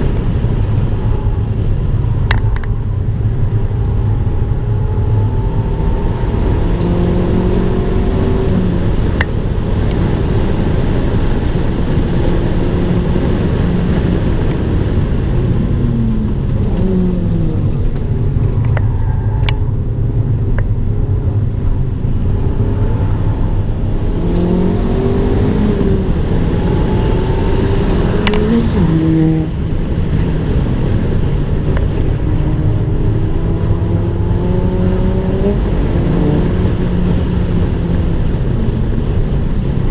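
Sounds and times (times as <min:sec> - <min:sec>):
car engine running hard: 0:00.0 - 0:39.9
road and wind noise: 0:00.0 - 0:39.9.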